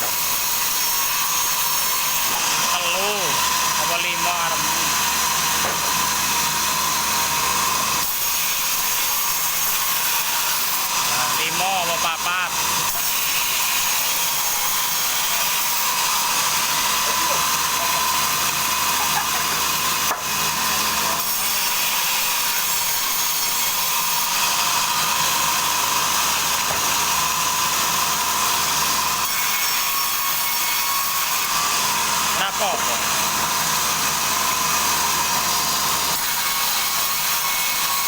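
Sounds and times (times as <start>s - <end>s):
sawmill saw cutting log: 0.0s - 38.0s.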